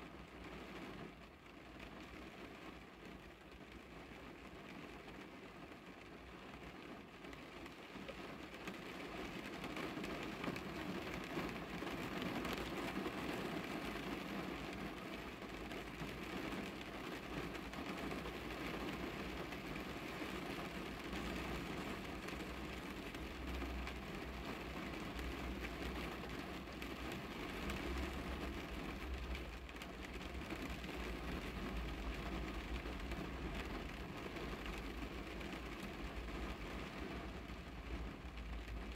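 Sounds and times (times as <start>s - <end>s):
rain on a car: 0.0s - 38.9s.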